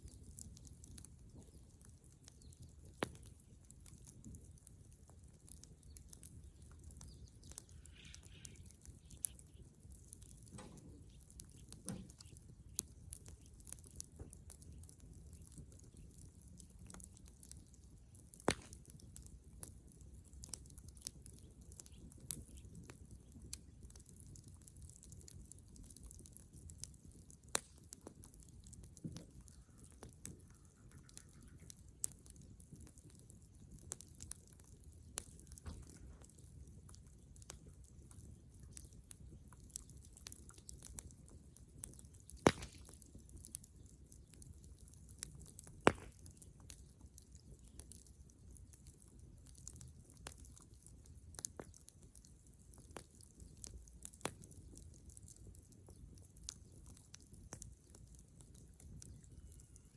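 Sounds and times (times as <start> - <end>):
bonfire crackling: 0.0 - 59.9
low rumble of burning: 0.0 - 59.9.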